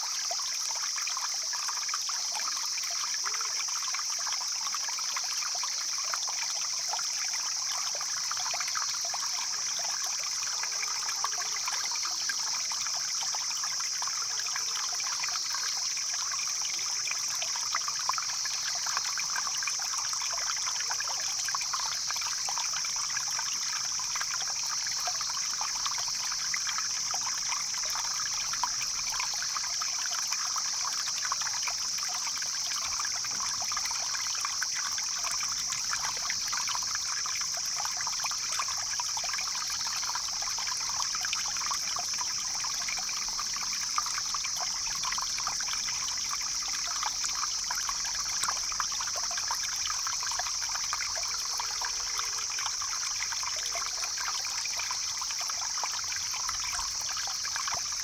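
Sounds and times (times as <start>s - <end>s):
stream water babbling over stones: 0.0s - 58.0s.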